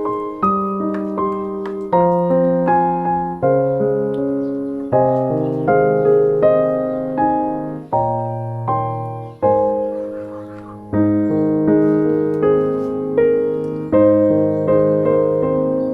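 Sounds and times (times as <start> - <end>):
gentle piano chords: 0.0 - 15.9.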